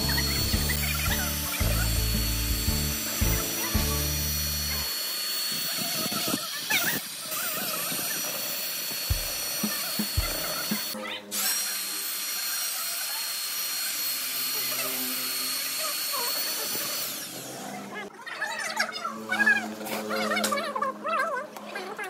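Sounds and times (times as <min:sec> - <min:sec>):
power tool motor whining: 0:00.0 - 0:18.1.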